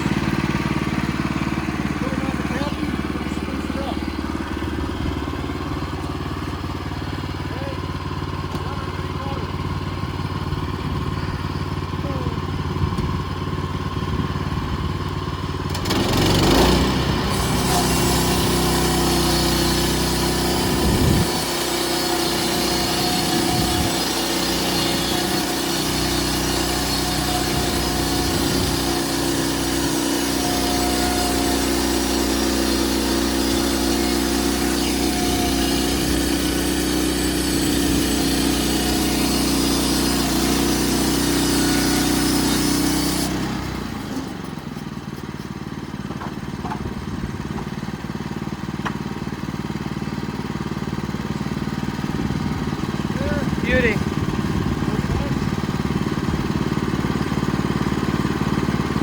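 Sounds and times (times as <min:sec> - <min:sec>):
saw blade running: 0:00.0 - 0:12.5, 0:15.6 - 0:59.0
sawmill engine running: 0:00.0 - 0:59.0.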